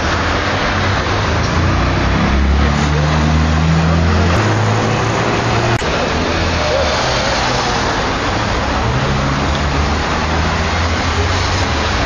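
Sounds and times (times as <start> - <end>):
car engines idling: 0.0 - 12.0
street traffic rushing: 0.0 - 12.0.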